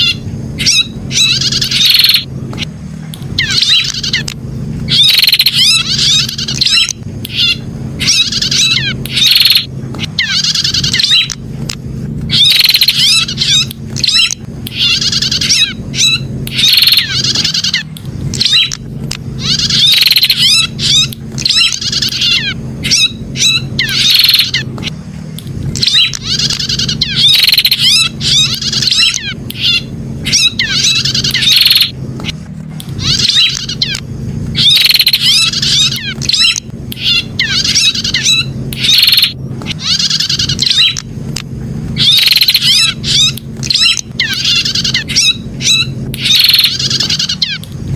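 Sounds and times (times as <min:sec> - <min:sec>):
bird chirping rapidly: 0:00.0 - 0:02.7, 0:03.3 - 0:04.3, 0:04.9 - 0:11.4, 0:12.3 - 0:25.0, 0:25.7 - 0:41.1, 0:42.0 - 0:47.6
steady low hum: 0:00.0 - 0:47.9.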